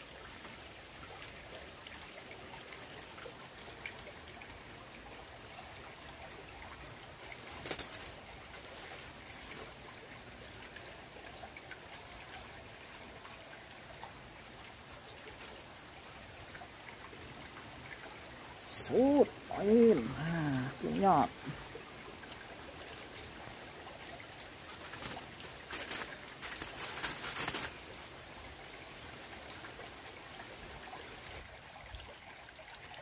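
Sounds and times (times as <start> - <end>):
stream trickling: 0.0 - 33.0.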